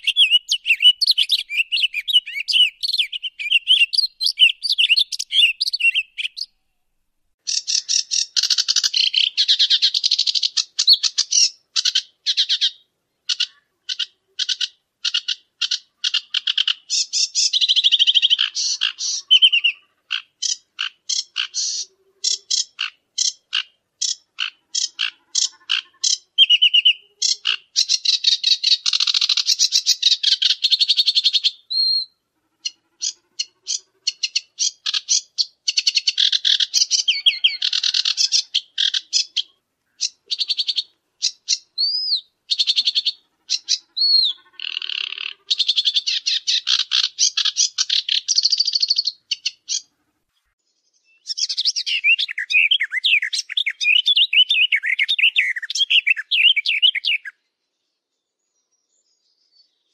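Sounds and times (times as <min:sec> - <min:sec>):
warbling bird song: 0:00.0 - 0:06.7, 0:07.4 - 0:59.9
birds chirping and trilling: 0:00.0 - 0:06.8, 0:07.4 - 0:59.9.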